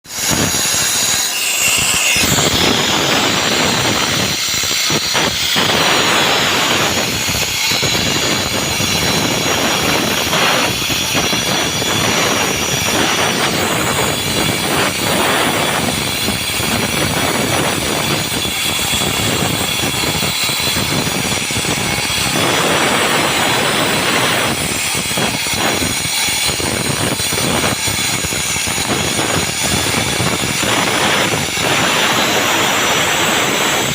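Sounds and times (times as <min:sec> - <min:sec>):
concrete saw cutting: 0:00.0 - 0:33.9.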